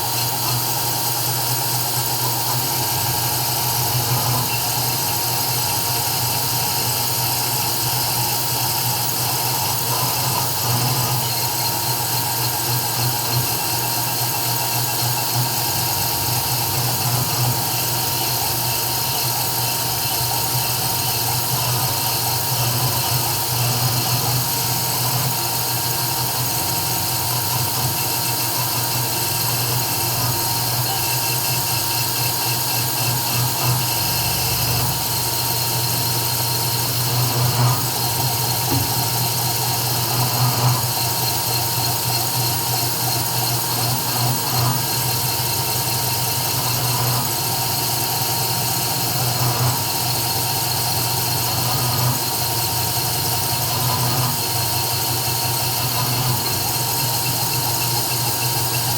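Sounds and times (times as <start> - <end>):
router machine hum and whine: 0.0 - 58.9.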